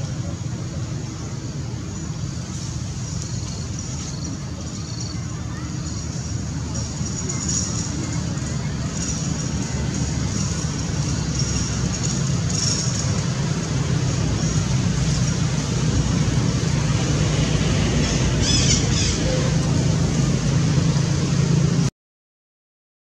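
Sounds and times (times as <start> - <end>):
low traffic engine rumble: 0.0 - 21.9.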